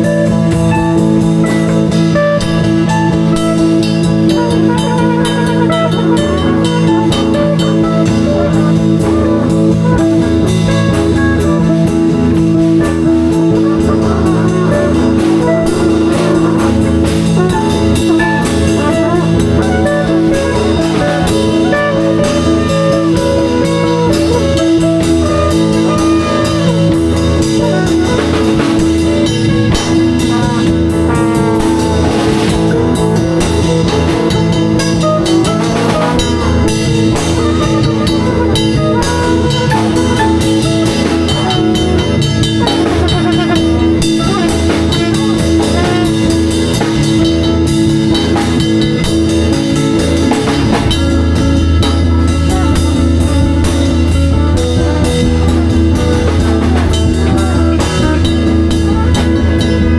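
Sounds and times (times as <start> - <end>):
bass line: 0.0 - 59.9
drum kit: 0.0 - 59.9
electric guitar: 0.0 - 59.9.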